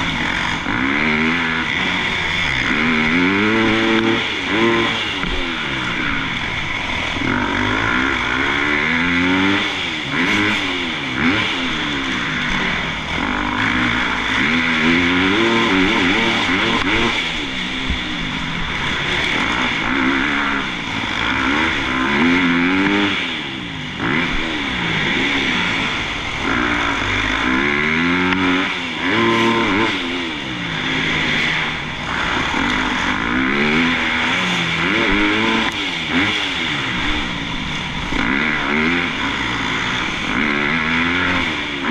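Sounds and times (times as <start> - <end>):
motocross engines revving: 0.0 - 41.9.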